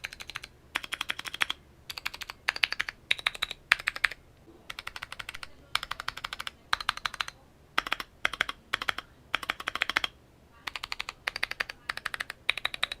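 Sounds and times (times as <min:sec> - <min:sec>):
mechanical keyboard typing: 0:00.0 - 0:13.0.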